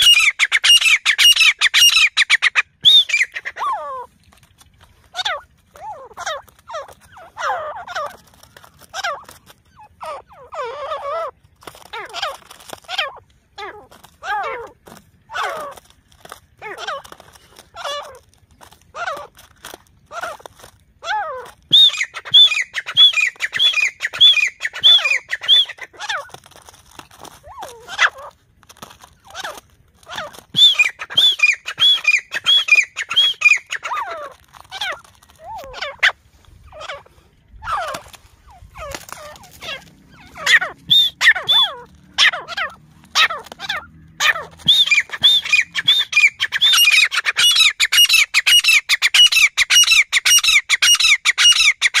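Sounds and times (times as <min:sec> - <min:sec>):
francolins calling: 0:00.0 - 0:52.0.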